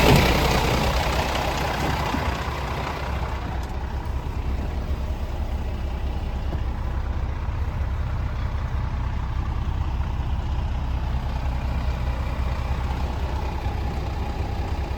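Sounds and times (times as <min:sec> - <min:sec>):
diesel truck idling: 0:00.0 - 0:14.9.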